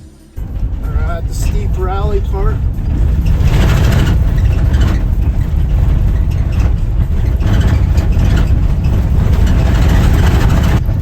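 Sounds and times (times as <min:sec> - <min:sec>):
vehicle driving on gravel road: 0:00.0 - 0:11.0.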